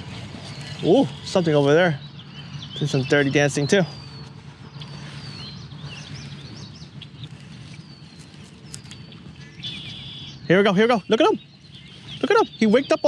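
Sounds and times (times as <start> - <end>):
small birds chirping: 0.0 - 13.0
steady outdoor hiss: 0.0 - 13.0.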